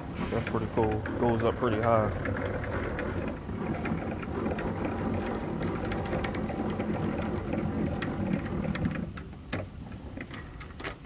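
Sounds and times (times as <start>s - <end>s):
hand-cranked lift mechanism whirring: 0.0s - 11.0s.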